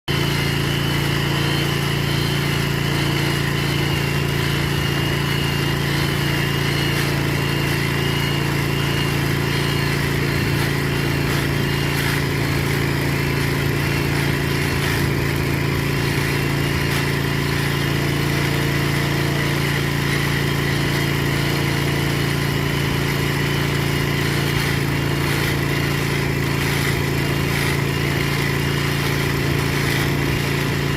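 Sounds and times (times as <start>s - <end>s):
high wavering grinding whine: 0.1s - 30.9s
rail grinder engine drone: 0.1s - 30.9s.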